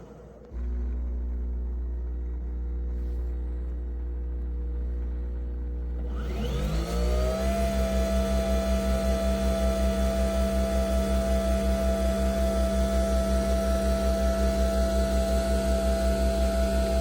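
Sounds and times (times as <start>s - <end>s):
coffee machine motor whine: 0.0s - 17.0s.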